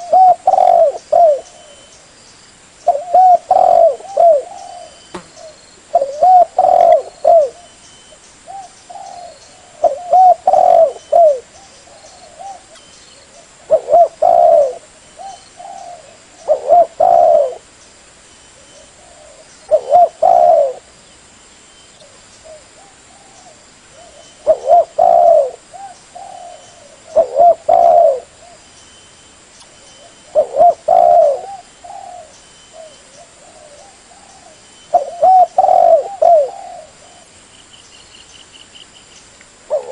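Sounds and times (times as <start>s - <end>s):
dove cooing: 0.0s - 1.9s, 2.8s - 7.8s, 8.5s - 17.7s, 18.6s - 20.9s, 22.0s - 28.6s, 30.0s - 37.3s, 39.7s - 39.9s.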